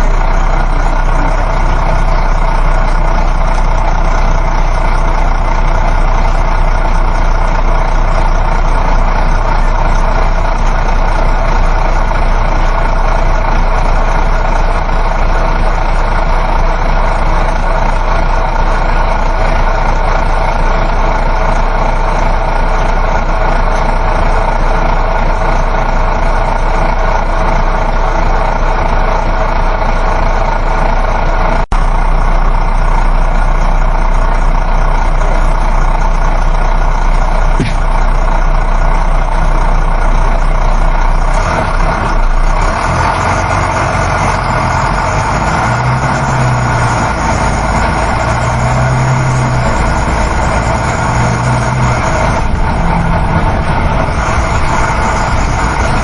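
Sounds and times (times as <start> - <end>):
bus engine running: 0.0 - 56.0
road noise: 0.0 - 56.0.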